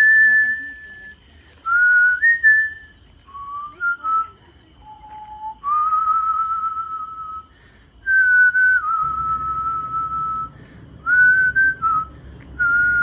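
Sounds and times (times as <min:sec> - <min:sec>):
person whistling a slow tune: 0:00.0 - 0:13.0.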